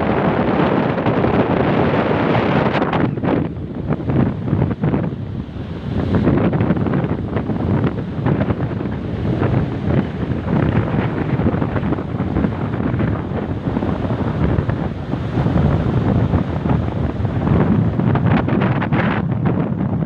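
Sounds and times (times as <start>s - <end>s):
ocean surf washing in: 0.0s - 20.0s
wind buffeting the microphone: 0.0s - 20.0s.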